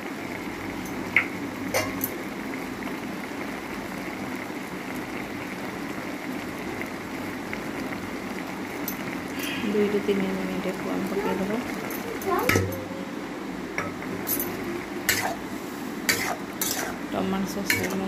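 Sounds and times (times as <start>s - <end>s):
food sizzling and bubbling in pan: 0.0s - 18.0s.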